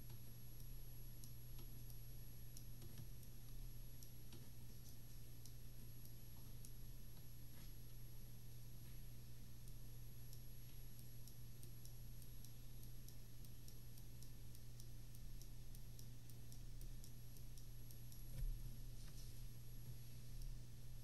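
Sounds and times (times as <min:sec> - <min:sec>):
faint ticking: 0:00.0 - 0:08.0, 0:09.5 - 0:18.6
steady low hum: 0:00.0 - 0:21.0.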